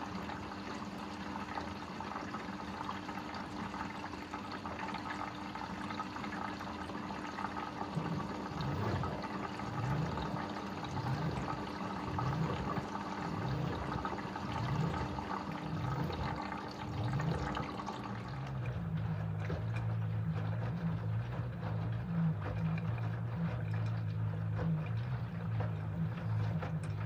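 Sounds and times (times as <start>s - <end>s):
washing machine motor hum: 0.0s - 27.0s
water running into washing machine: 0.0s - 27.0s
water swishing in drum: 0.0s - 27.0s.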